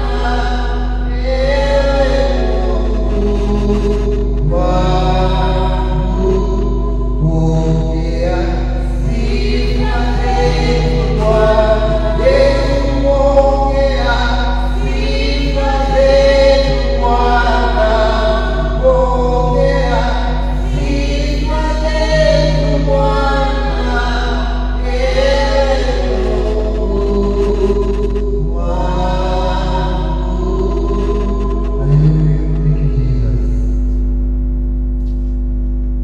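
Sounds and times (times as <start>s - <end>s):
group singing worship song: 0.0s - 33.2s
steady low hum: 0.0s - 36.0s.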